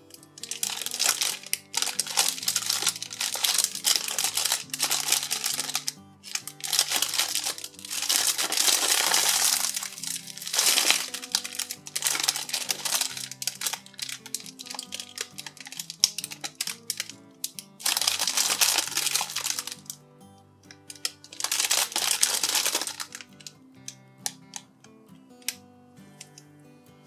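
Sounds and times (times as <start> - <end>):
cellophane wrapper crinkling: 0.0 - 20.0, 20.7 - 24.6
light background music: 0.0 - 27.0.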